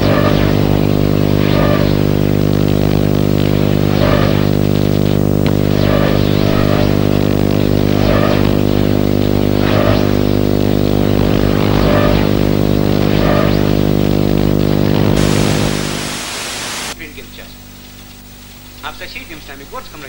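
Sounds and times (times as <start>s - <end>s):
rough buzzing drone: 0.0s - 17.0s
static hiss: 0.0s - 17.2s.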